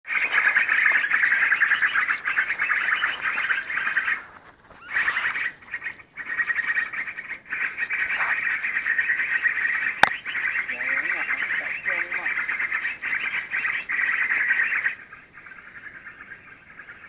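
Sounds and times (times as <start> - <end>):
bird calls chattering: 0.1 - 17.0.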